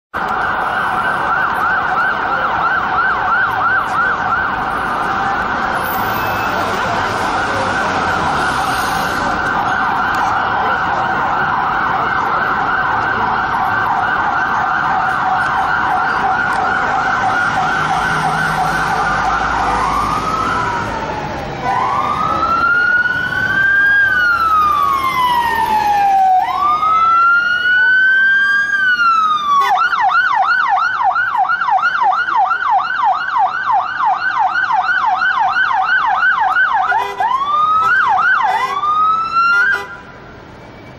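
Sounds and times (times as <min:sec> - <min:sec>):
street traffic noise: 0:00.1 - 0:40.9
police siren yelp and wail: 0:00.2 - 0:40.2.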